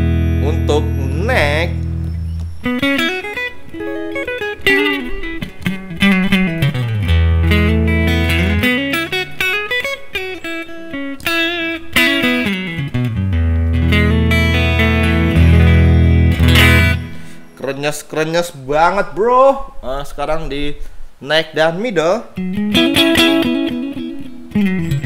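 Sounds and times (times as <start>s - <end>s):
clean electric guitar: 0.0s - 17.6s, 22.2s - 25.0s.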